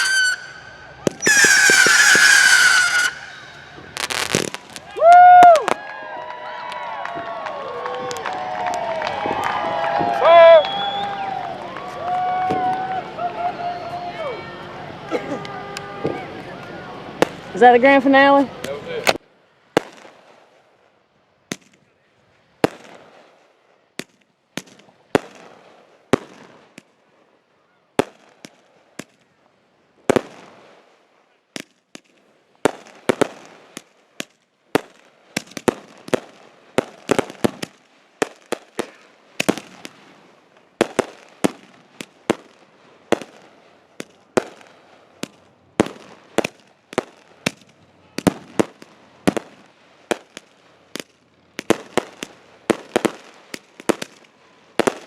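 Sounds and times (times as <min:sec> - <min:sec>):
fireworks bangs: 0:00.0 - 0:06.0, 0:06.6 - 0:12.9, 0:15.1 - 0:20.6, 0:22.6 - 0:27.0, 0:28.0 - 0:29.3, 0:30.0 - 0:30.9, 0:31.6 - 0:55.0.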